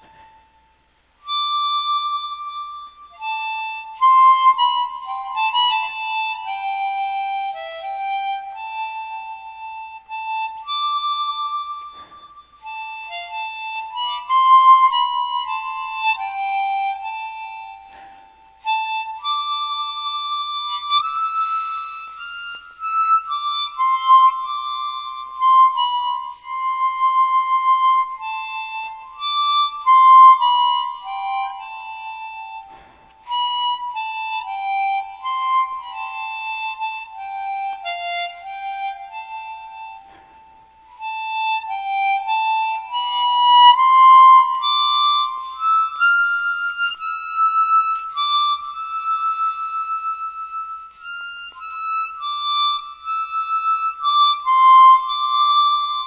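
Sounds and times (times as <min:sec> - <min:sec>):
solo harmonica melody: 0:00.0 - 0:56.0.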